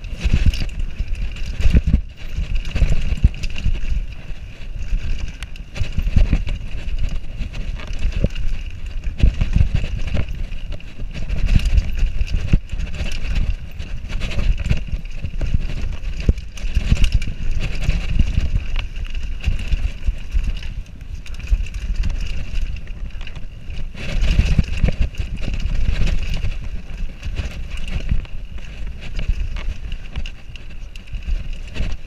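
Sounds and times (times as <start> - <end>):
bike knocking and rattling on rocks: 0.0 - 32.0
bike tyres rumbling on dirt: 0.0 - 32.0.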